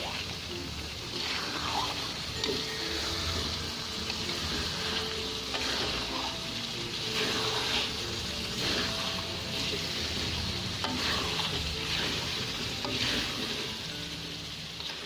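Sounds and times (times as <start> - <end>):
chili sauce sizzling in a wok: 0.0 - 15.0
metal spatula stirring in a wok: 0.0 - 15.0.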